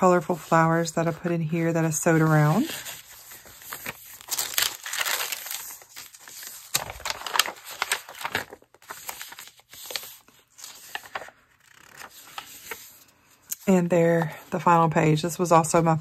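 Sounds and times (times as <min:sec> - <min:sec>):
paper pages rustling: 0:00.0 - 0:14.5.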